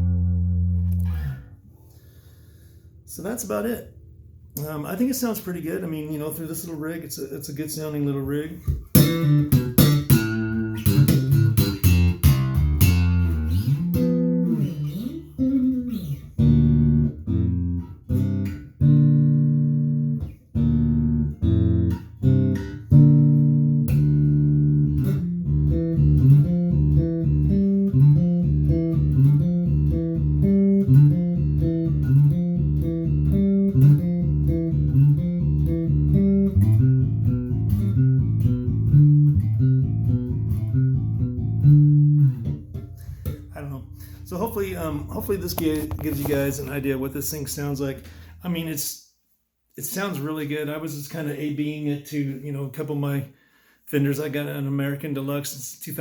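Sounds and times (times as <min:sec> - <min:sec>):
electric bass through amp: 0:00.0 - 0:49.0.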